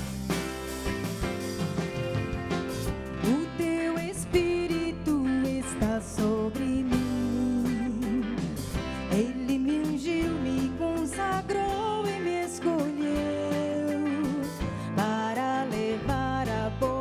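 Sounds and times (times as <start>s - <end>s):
drum kit with cymbals: 0.0s - 17.0s
electric bass guitar: 0.0s - 17.0s
woman singing into a microphone: 3.2s - 17.0s.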